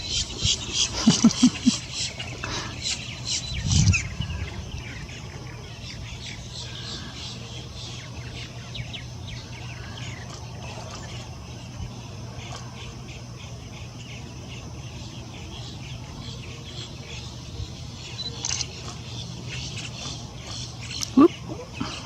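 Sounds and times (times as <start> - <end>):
birds chirping and calling: 0.0 - 22.0
steady low hum: 0.0 - 22.0.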